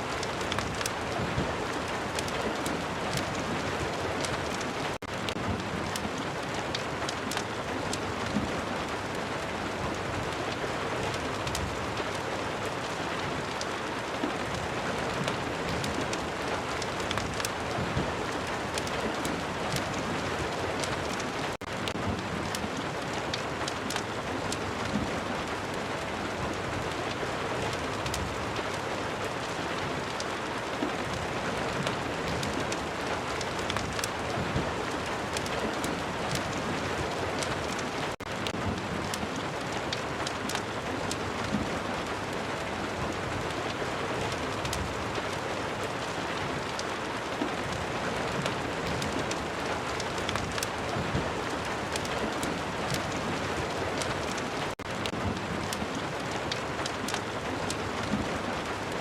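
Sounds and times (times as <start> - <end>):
fireplace crackling: 0.0 - 9.4, 11.4 - 25.6, 26.6 - 42.8, 43.5 - 59.0
heavy rain: 0.0 - 59.0.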